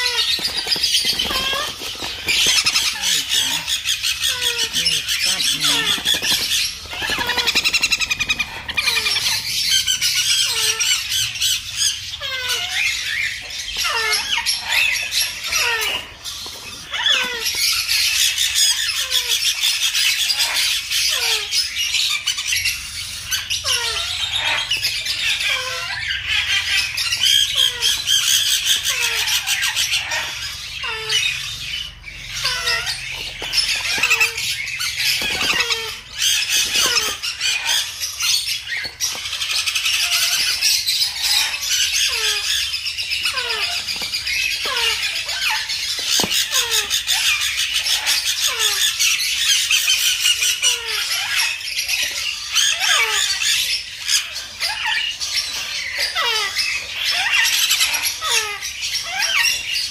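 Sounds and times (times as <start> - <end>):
baby parrots rasping squawk: 0.0 - 59.9.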